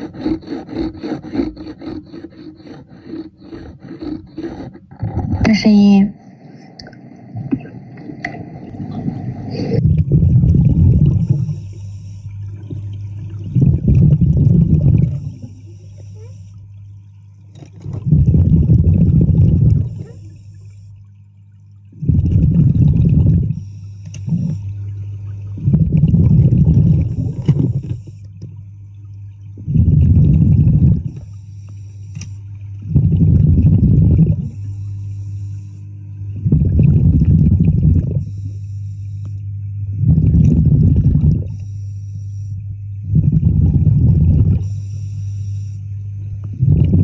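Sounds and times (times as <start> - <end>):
underwater exhaled bubbles rushing: 0.0 - 20.7, 21.8 - 31.6, 32.5 - 35.2, 36.2 - 38.5, 39.8 - 41.6, 42.8 - 47.0
steady low hum: 0.0 - 47.0.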